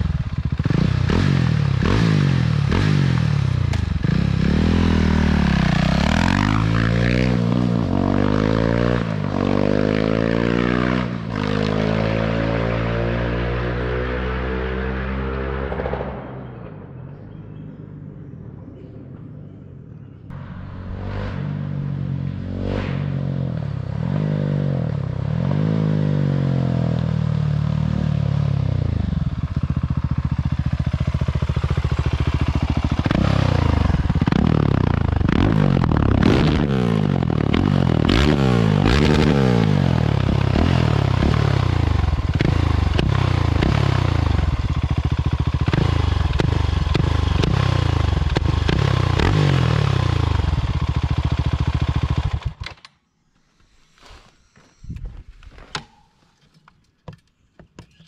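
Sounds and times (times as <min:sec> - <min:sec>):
motorcycle engine revving: 0:00.0 - 0:17.6, 0:20.3 - 0:52.7.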